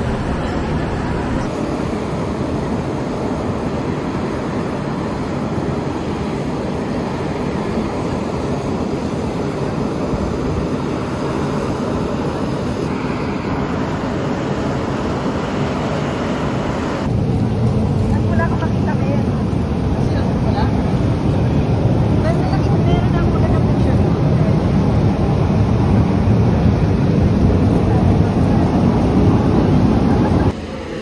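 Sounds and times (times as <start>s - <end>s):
steam rushing: 0.0s - 31.0s.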